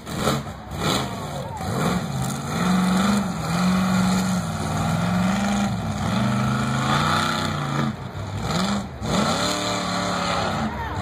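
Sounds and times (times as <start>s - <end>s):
truck engine running hard: 0.0s - 11.0s.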